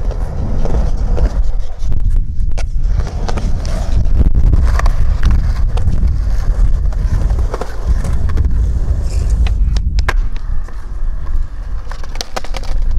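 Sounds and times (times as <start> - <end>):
skateboard clicks and knocks: 0.0 - 12.9
skateboard wheels rolling on concrete: 0.0 - 12.9
wind buffeting microphone: 0.0 - 12.9.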